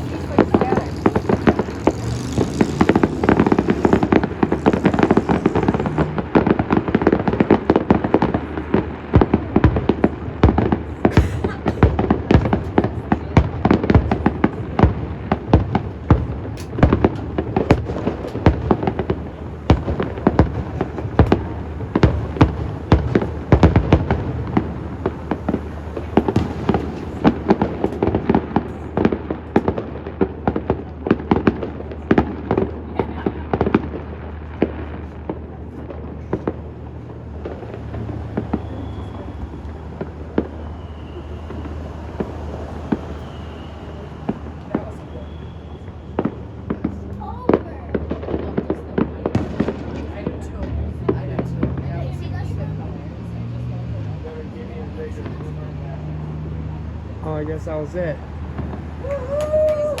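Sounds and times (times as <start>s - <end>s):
deep fireworks booms: 0.0s - 52.9s
fireworks bangs and crackles: 0.0s - 60.0s.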